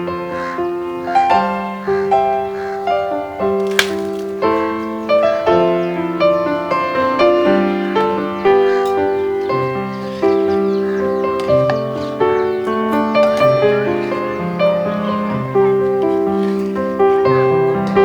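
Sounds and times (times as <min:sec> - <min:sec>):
piano-like keyboard melody: 0:00.0 - 0:18.0.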